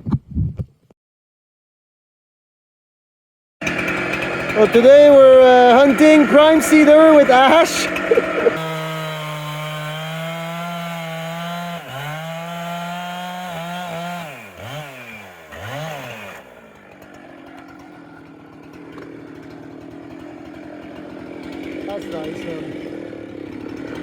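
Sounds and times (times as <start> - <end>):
chainsaw running at high revs: 3.6 - 24.0.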